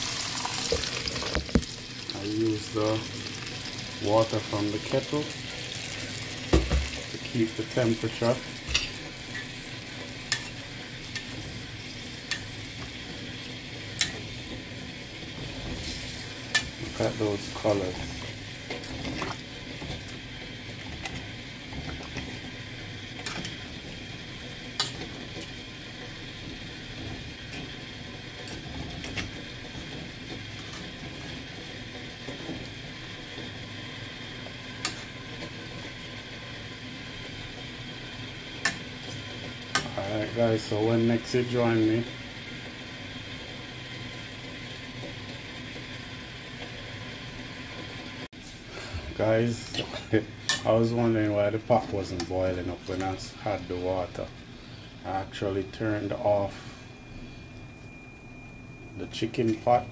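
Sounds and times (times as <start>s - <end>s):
steady low hum with hiss: 0.0s - 59.9s.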